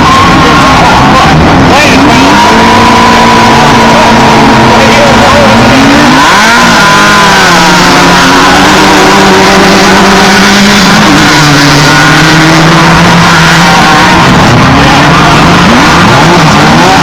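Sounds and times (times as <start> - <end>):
race vehicle engines revving: 0.0 - 17.0.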